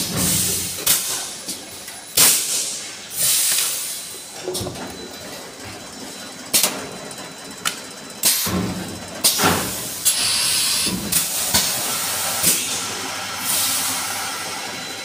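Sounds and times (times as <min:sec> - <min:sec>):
steady mechanical background: 0:00.0 - 0:15.0.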